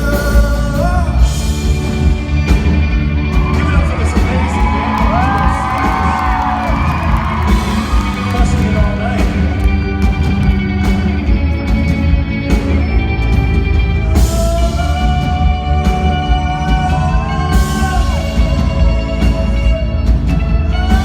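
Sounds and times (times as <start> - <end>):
live rock band: 0.0 - 21.0.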